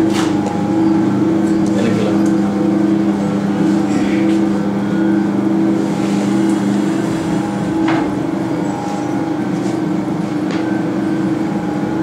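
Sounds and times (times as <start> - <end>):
crimping press motor hum: 0.0 - 12.0.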